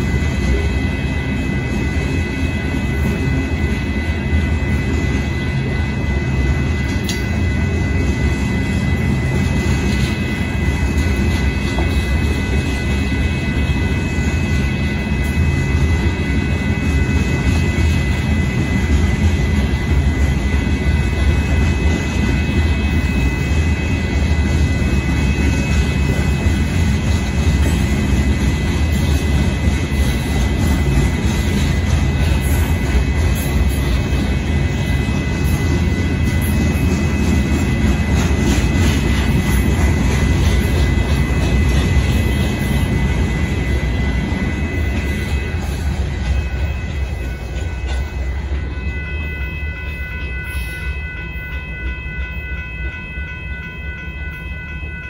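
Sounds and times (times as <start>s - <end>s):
crossing bell ringing: 0.0s - 55.0s
freight train rumbling with wheel clatter: 0.0s - 55.0s.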